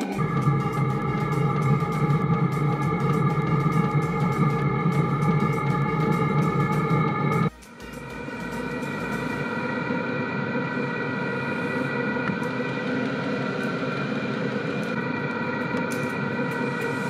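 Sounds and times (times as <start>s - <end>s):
heater blowers whirring: 0.0s - 17.0s
heater whine: 0.0s - 17.0s.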